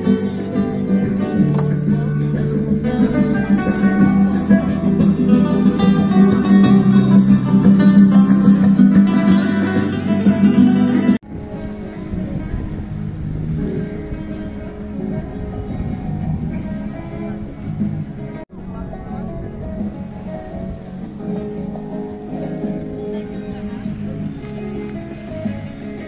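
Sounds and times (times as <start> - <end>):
fingerpicked acoustic guitar: 0.0 - 26.0.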